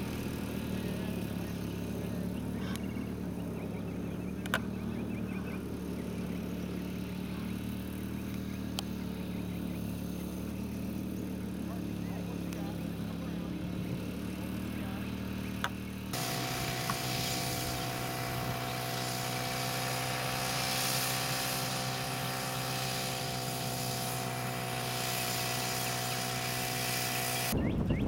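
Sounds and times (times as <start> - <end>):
engine droning hum: 0.0 - 28.0.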